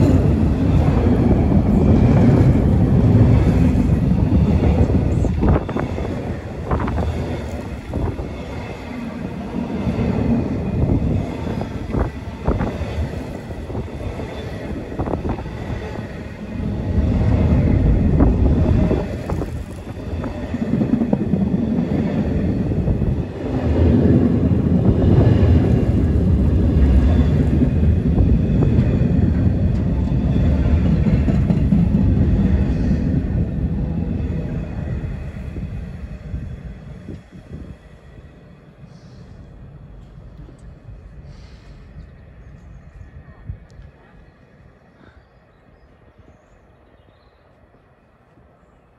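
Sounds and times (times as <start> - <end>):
train passing: 0.0 - 48.9.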